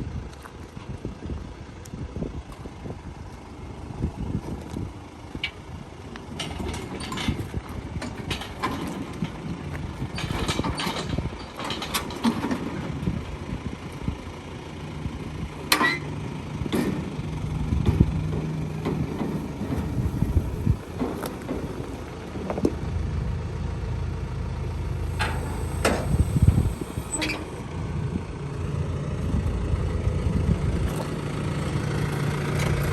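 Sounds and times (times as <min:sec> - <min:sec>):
tractor engine idling: 0:01.0 - 0:32.9.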